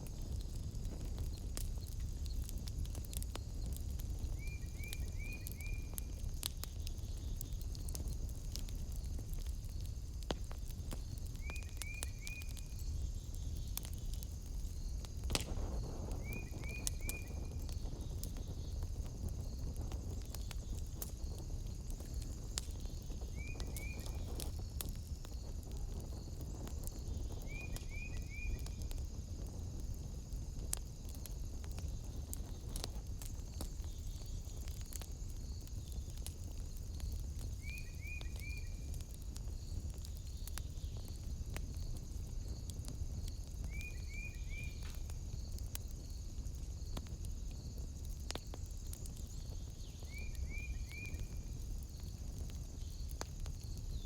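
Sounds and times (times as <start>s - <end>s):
fire popping: 0.0s - 54.0s
wood fire crackling: 0.0s - 54.0s
night insects chirring: 0.1s - 54.0s.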